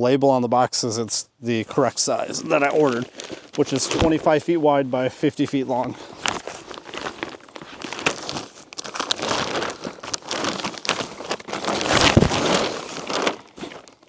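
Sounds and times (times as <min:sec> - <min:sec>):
plastic film crinkling and rustling: 0:01.5 - 0:14.0.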